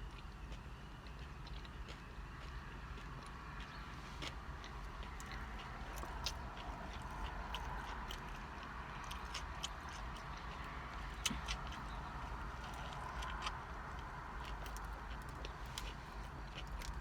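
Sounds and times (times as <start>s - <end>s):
person chewing sandwich: 0.0s - 17.0s.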